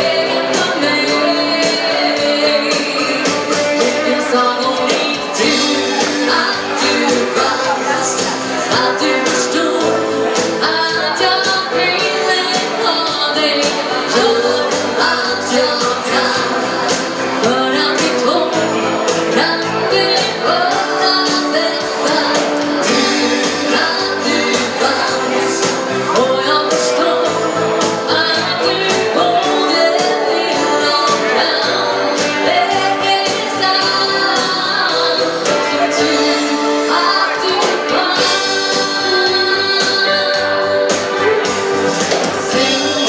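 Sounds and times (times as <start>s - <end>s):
drum kit beat: 0.0s - 43.0s
electric and acoustic guitars: 0.0s - 43.0s
keyboard: 0.0s - 43.0s
woman singing: 0.0s - 43.0s.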